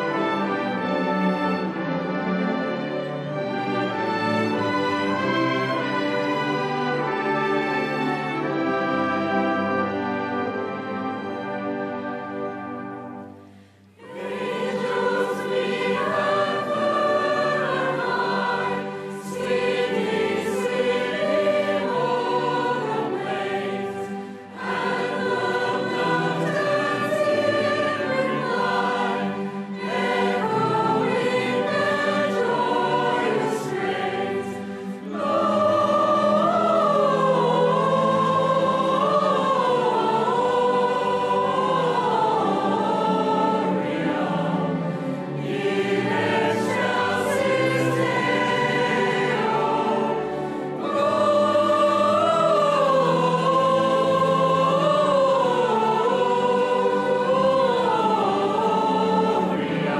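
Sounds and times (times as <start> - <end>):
choir singing a carol: 0.0 - 59.9
orchestra playing: 0.0 - 59.9.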